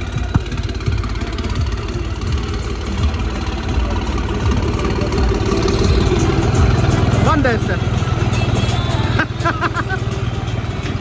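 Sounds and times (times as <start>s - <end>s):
tractor diesel engine passing: 0.0s - 11.0s.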